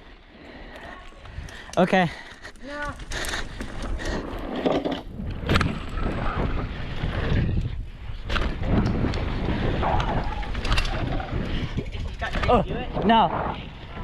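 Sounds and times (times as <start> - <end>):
bike rolling on dirt trail: 0.5 - 14.0
wind buffeting microphone: 1.0 - 14.0.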